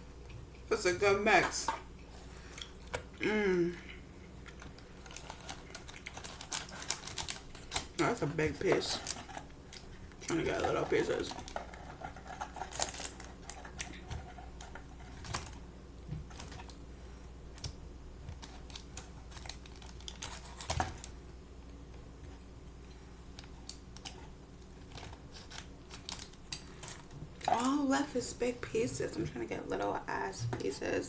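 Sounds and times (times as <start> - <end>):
crispy fried chicken crackling: 0.0 - 28.7.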